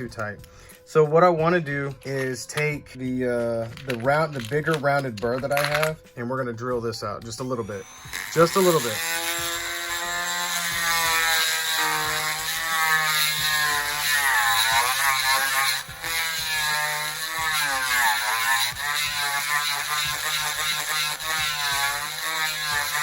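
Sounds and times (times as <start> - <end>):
rotary tool grinding plastic: 3.4 - 6.1, 7.2 - 23.0.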